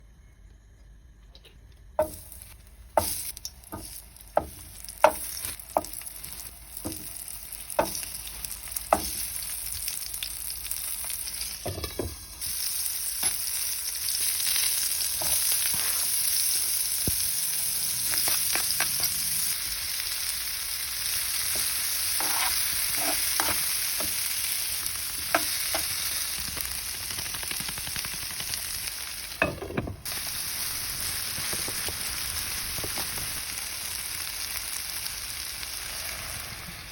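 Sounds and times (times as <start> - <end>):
food sizzling in a pan: 2.0 - 36.9.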